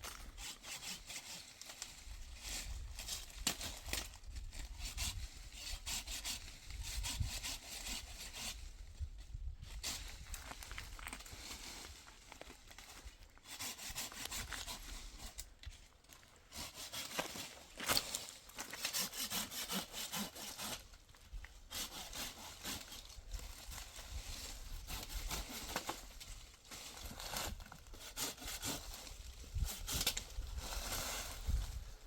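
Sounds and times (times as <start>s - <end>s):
hand saw cutting wood: 0.1s - 8.7s, 13.4s - 15.5s, 16.4s - 31.6s.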